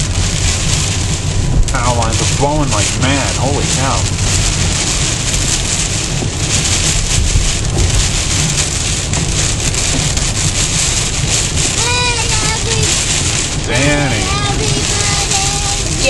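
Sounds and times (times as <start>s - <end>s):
gusty wind buffeting car: 0.0s - 16.0s
heavy rain beating on a car: 0.0s - 16.0s
low rumble: 0.0s - 16.0s.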